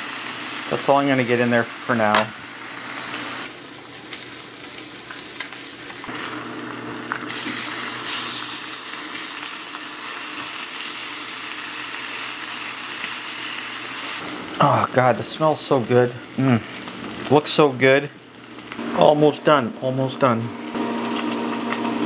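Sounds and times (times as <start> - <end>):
bacon sizzling in frying pan: 0.0 - 22.0.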